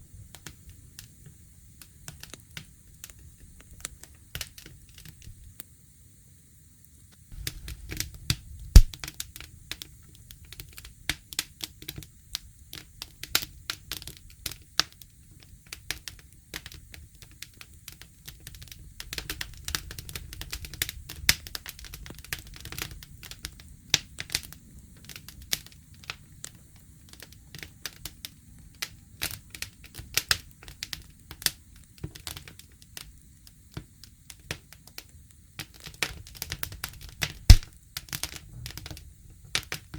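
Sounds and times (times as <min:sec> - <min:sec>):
low rumble of flame: 0:00.0 - 0:39.9
campfire crackling and popping: 0:00.2 - 0:05.8, 0:06.8 - 0:39.9.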